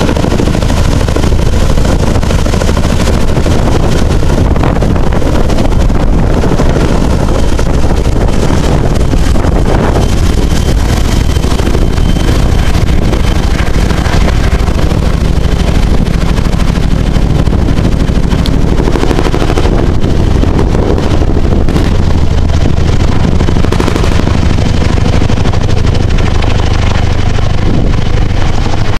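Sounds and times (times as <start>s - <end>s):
helicopter rotors thudding: 0.0s - 28.9s
turbine whine: 0.0s - 28.9s.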